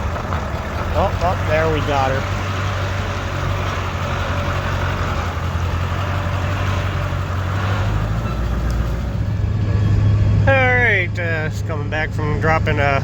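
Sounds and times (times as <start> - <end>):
road noise: 0.0 - 13.0
vehicle engine humming: 0.0 - 13.0.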